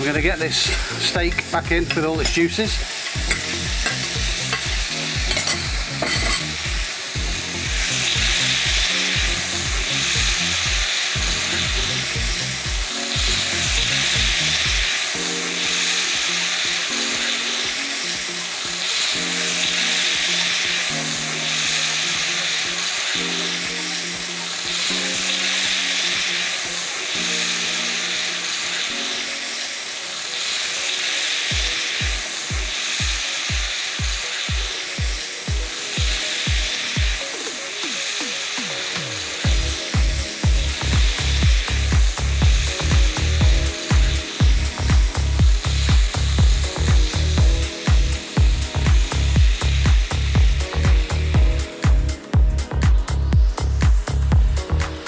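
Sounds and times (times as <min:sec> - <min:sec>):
background music with regular beat: 0:00.0 - 0:55.0
meat and vegetables sizzling in pan: 0:00.0 - 0:55.0.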